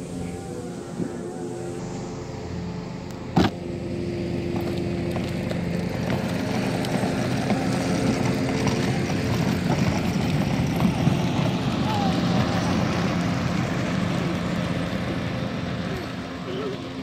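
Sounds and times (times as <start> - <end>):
small motor humming: 0.0 - 17.0.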